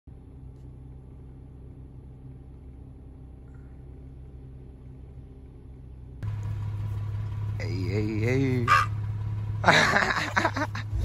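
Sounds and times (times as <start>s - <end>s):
car engine low rumble: 0.1s - 11.0s.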